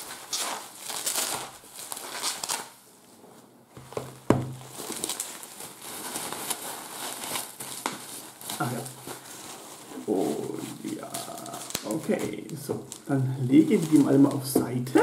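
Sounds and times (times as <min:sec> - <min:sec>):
packaging crinkling: 0:00.0 - 0:02.8, 0:03.8 - 0:15.0.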